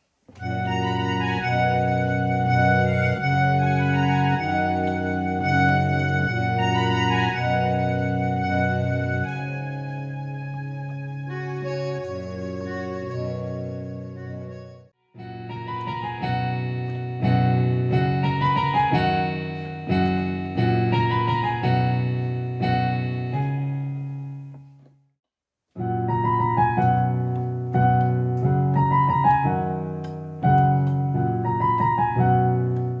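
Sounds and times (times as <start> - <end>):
electronic keyboard playing chords: 0.3 - 24.8, 25.8 - 33.0.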